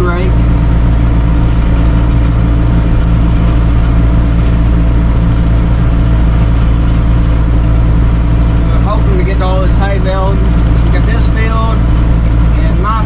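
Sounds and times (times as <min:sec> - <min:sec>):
hay baler baling: 0:00.0 - 0:13.0
tractor engine running: 0:00.0 - 0:13.0.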